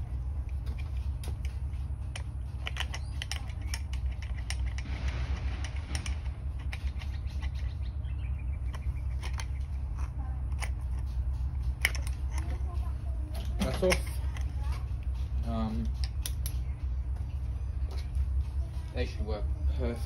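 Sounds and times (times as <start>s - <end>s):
sharp clicks and metallic rattles: 0.0s - 20.0s
steady low rumble: 0.0s - 20.0s.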